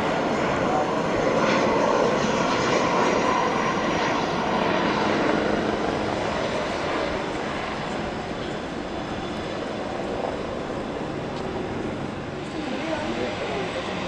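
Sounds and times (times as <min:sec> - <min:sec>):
jet aircraft engines: 0:00.0 - 0:14.0.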